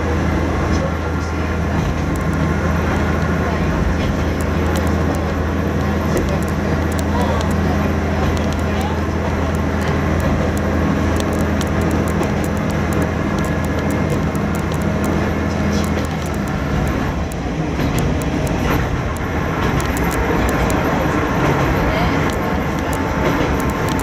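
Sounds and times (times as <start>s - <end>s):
diesel engine drone: 0.0s - 24.0s
wheels rumbling on rails: 0.0s - 24.0s
track clicks: 0.7s - 24.0s.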